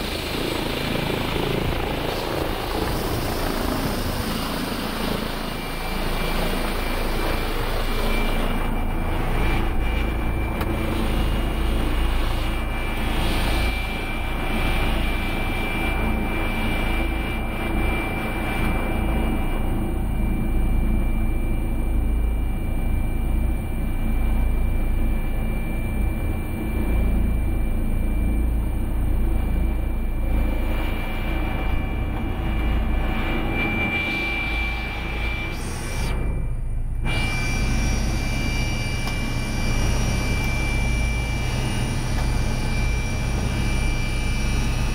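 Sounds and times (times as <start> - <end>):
helicopter turbine whine and rotor: 0.0 - 44.9.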